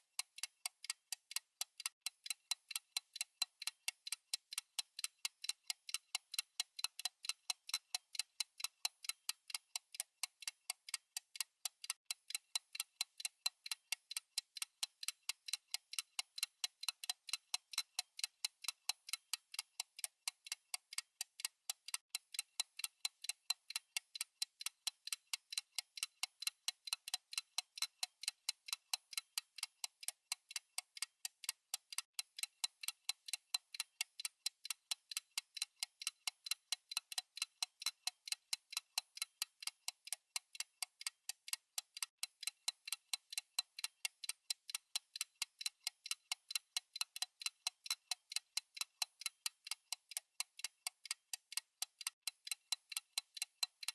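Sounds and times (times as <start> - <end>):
fast clock ticking: 0.0 - 53.9.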